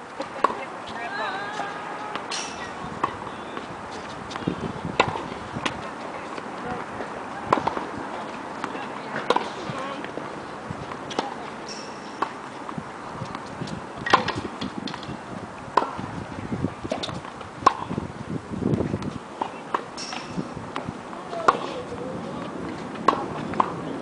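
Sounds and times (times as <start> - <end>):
tennis balls struck and bouncing: 0.2 - 16.1, 16.9 - 18.0, 18.8 - 21.7, 22.4 - 24.0.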